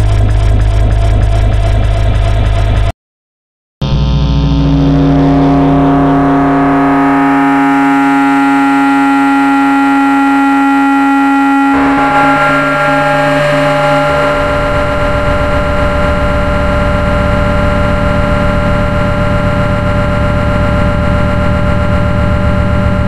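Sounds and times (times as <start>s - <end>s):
noise music drone: 0.0s - 2.9s, 3.8s - 23.0s.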